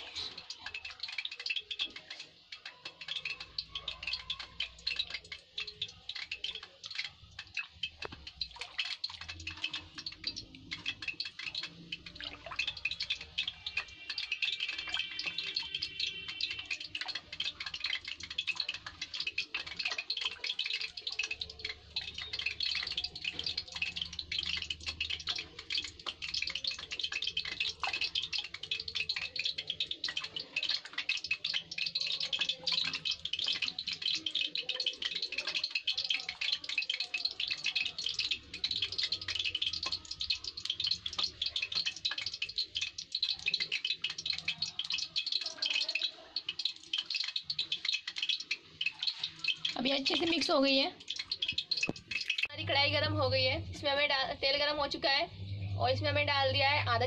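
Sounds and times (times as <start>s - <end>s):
hand squelching batter in pot: 0.0s - 53.1s.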